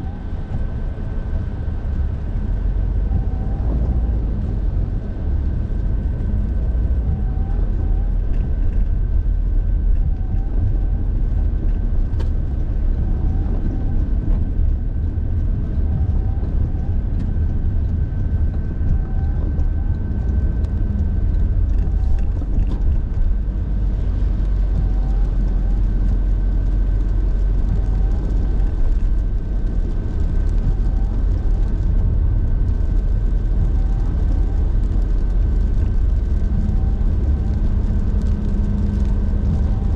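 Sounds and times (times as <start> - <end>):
road and engine rumble: 0.0 - 39.9
thin steady whine: 0.0 - 39.9.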